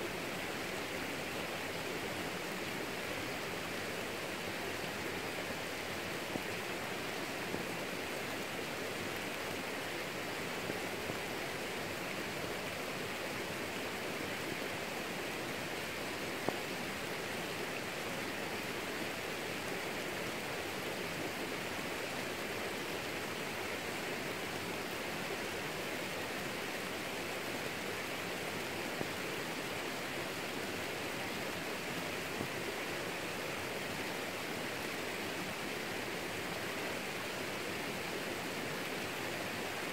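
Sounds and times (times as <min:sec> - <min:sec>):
steady rain on plants: 0:00.0 - 0:39.9.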